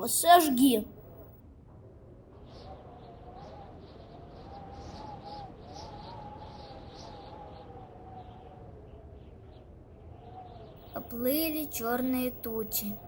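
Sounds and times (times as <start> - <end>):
faint bird chirps: 2.3 - 13.0.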